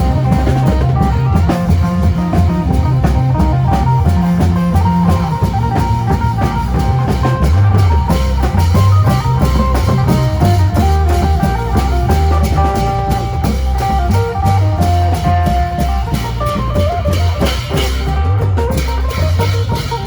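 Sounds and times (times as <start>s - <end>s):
bass: 0.0s - 20.0s
drum kit beat: 0.0s - 20.0s.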